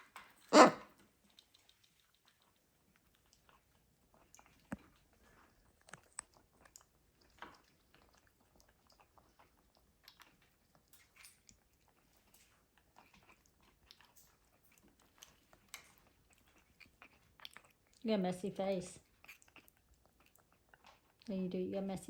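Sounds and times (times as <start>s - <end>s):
parrot beak crunching food: 0.0s - 18.0s, 19.0s - 21.3s.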